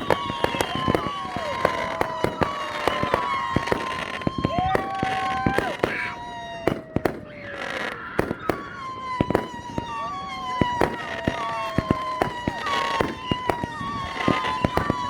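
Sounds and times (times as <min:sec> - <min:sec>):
fireworks bangs and crackles: 0:00.0 - 0:15.0
fireworks whistling: 0:00.0 - 0:15.0.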